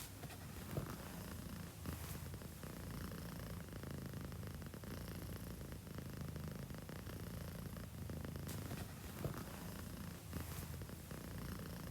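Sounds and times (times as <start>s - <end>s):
cat snoring rumble: 0.3s - 11.9s.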